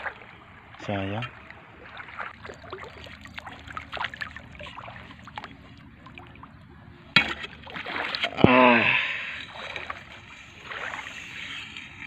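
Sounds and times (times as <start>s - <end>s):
shallow water flowing: 0.0s - 12.0s
splashes and knocks from wading: 0.0s - 12.0s.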